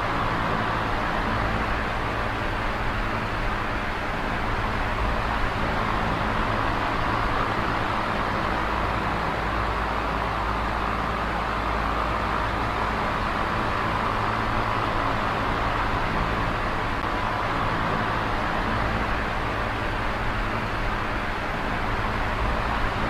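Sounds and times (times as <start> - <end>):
fan air rushing: 0.0 - 23.0.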